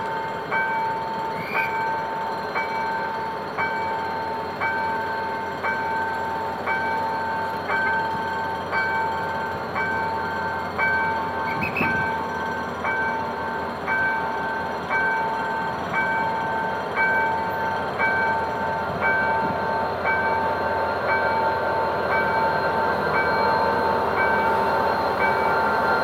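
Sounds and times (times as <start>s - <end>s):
diesel locomotive rumble: 0.0s - 26.0s
level crossing warning bell: 0.0s - 26.0s.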